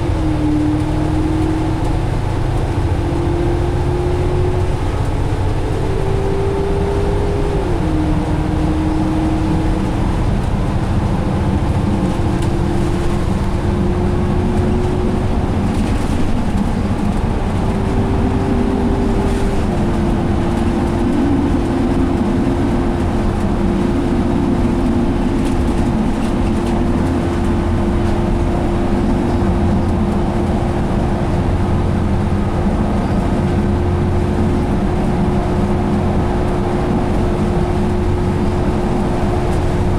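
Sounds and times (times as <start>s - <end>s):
bus diesel drone: 0.0s - 39.9s
road rumble: 0.0s - 39.9s.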